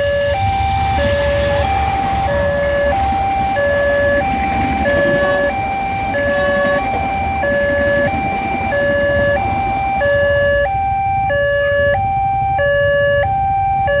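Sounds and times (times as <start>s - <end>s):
two-tone level crossing alarm: 0.0s - 14.0s.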